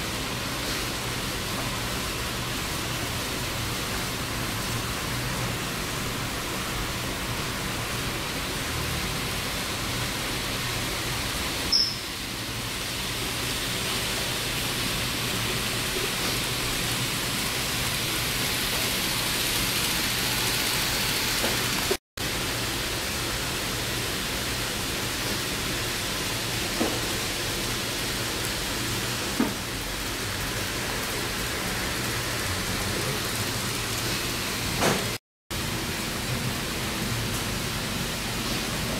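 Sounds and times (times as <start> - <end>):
model trains hissing on track: 0.0 - 35.2.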